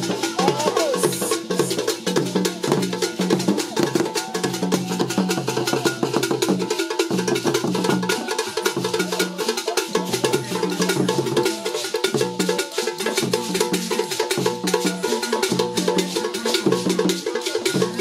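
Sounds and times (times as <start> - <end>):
fast hand drumming: 0.0 - 18.0.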